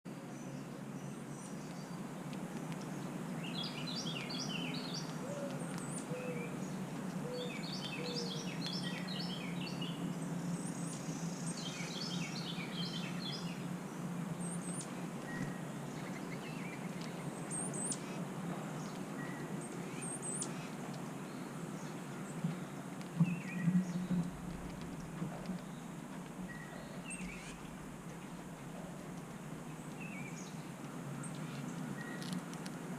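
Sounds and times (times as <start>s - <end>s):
steady low hum: 0.2s - 32.9s.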